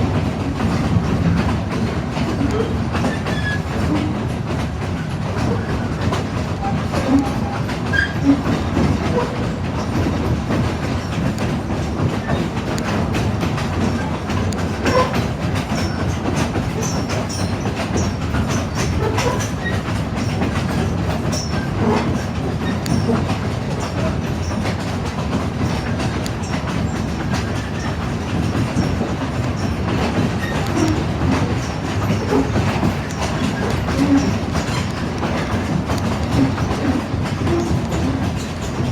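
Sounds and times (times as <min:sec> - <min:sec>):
rumble of wheels on rail: 0:00.0 - 0:38.9
wheel clicks and squeaks: 0:02.1 - 0:04.2, 0:05.4 - 0:10.2, 0:10.9 - 0:38.9.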